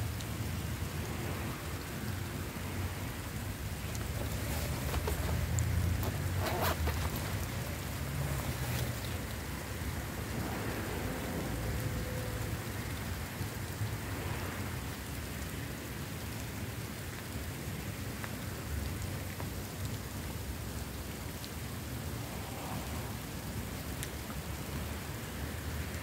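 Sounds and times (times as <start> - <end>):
rain on wet pavement: 0.0 - 26.0.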